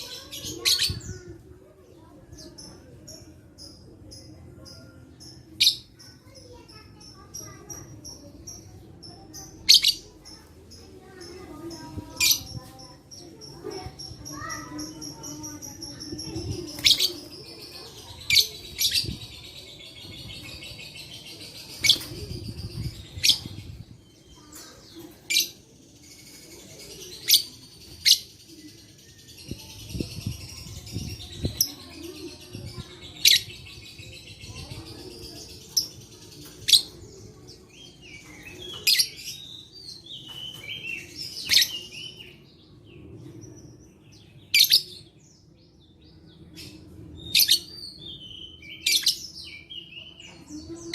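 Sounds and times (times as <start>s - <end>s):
lovebirds twittering: 5.2s - 45.4s, 46.0s - 50.9s.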